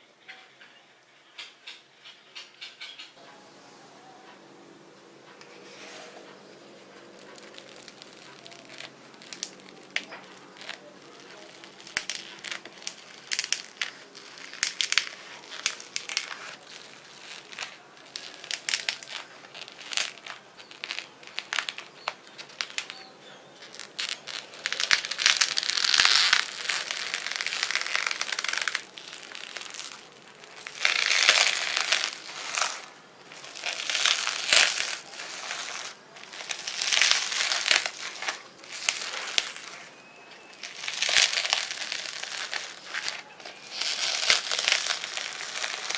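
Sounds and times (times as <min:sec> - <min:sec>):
slime crackling and popping: 0:07.0 - 0:45.9.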